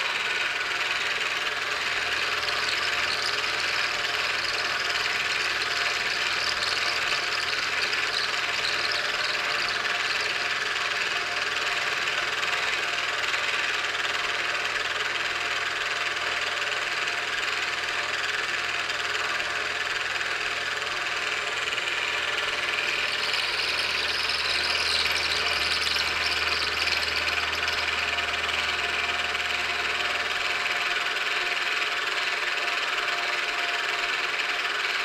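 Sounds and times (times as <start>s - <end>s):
milling machine whirring: 0.0s - 35.0s.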